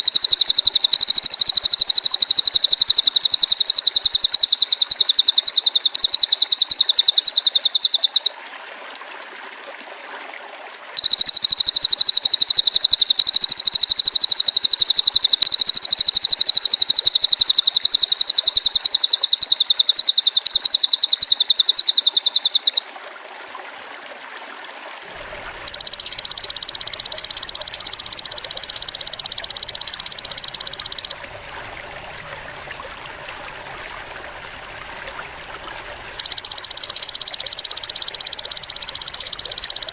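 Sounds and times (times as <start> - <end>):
buzzy insect and bird trills: 0.0 - 8.3, 11.0 - 22.8, 25.2 - 39.9.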